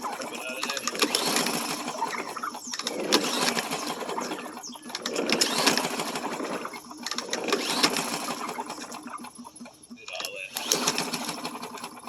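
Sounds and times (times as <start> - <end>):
mower engine cranking whirr: 0.0 - 12.0.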